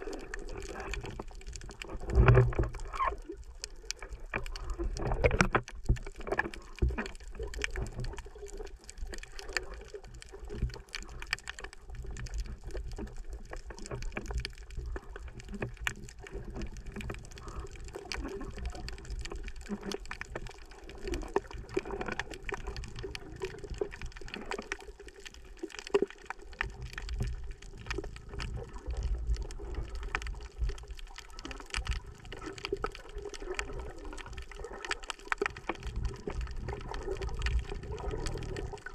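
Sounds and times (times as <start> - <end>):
small underwater clicks and crackles: 0.0 - 38.9
underwater rumble of moving water: 0.0 - 38.9.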